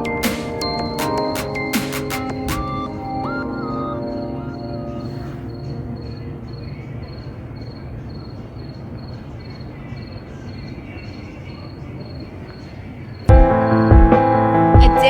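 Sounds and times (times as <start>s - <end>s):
cricket chirping: 0.0s - 13.9s.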